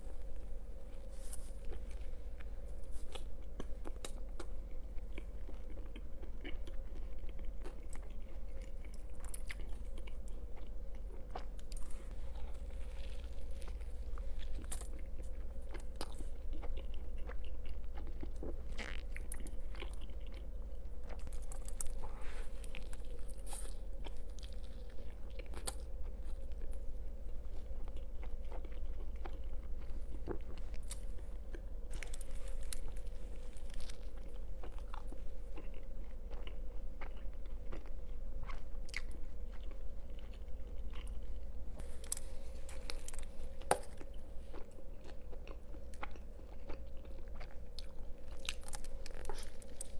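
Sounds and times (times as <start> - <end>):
chewing and biting food: 0.8 - 49.9.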